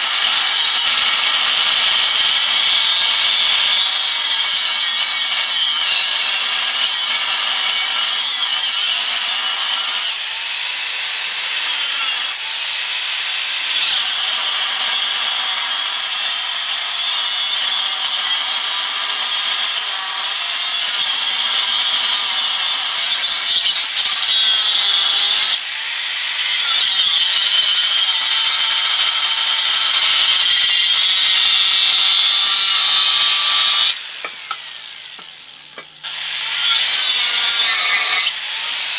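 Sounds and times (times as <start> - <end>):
angle grinder cutting metal: 0.0 - 38.9.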